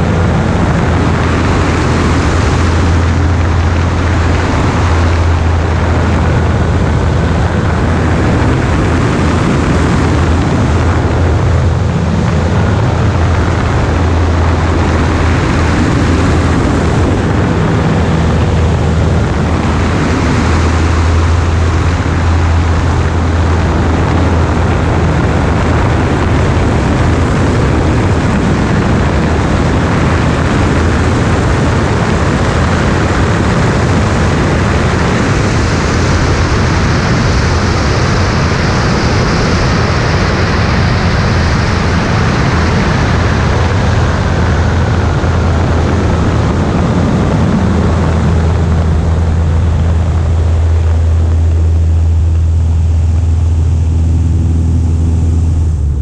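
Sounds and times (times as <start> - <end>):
airflow over microphone: 0.0 - 56.0
airplane engine drone: 0.0 - 56.0.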